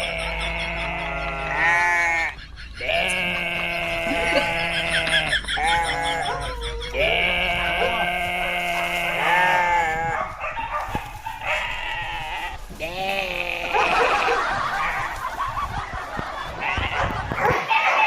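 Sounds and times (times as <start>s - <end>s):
animal bleating: 0.0s - 10.3s, 11.0s - 15.2s, 16.6s - 17.2s.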